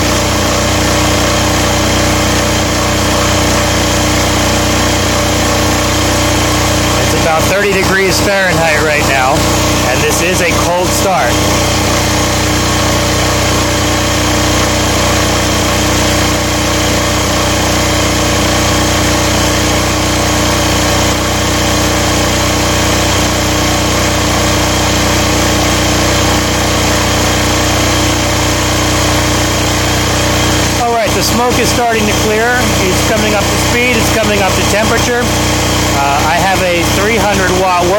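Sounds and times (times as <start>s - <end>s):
diesel generator engine running: 0.0s - 37.9s.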